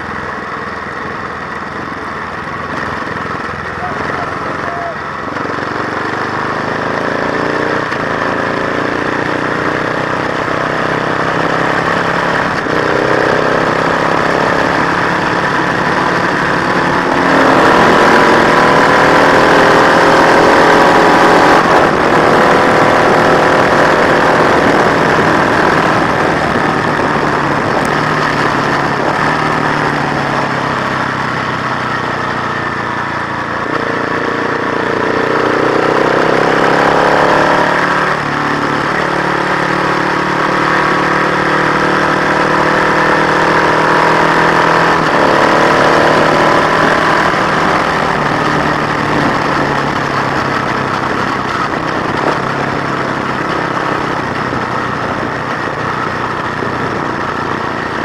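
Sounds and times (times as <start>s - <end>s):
racing engine accelerating: 2.7s - 31.8s, 32.6s - 58.0s.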